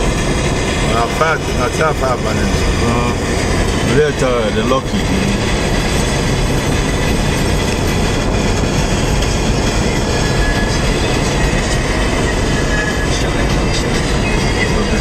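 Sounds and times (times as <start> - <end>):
car driving at speed: 0.0 - 15.0.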